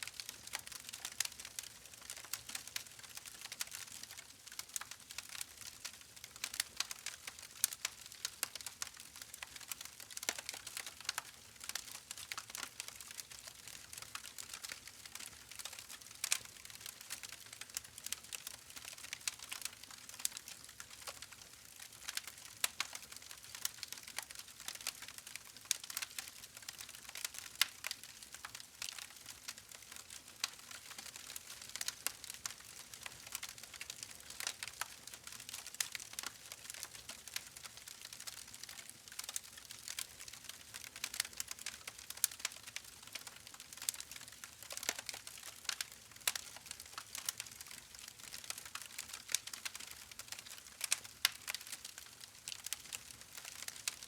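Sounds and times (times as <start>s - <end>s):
campfire crackling and snapping: 0.1s - 54.0s.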